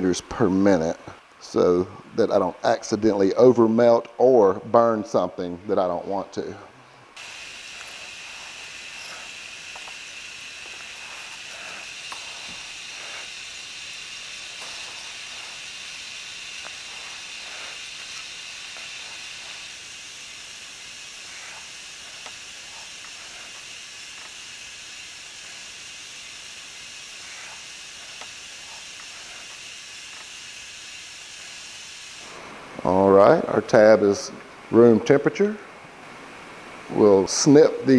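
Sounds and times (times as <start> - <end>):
gas hissing from welder tip: 5.2 - 37.9.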